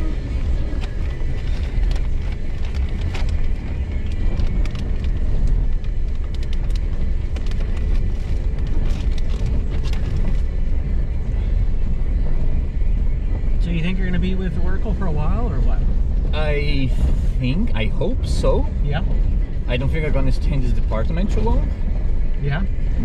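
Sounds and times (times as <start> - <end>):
vehicle rumble on dirt track: 0.0 - 23.0.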